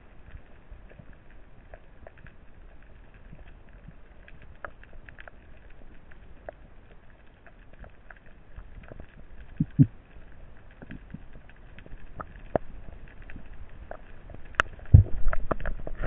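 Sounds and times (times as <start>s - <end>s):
low underwater rumble: 0.0s - 16.0s
underwater crackling clicks: 0.2s - 16.0s.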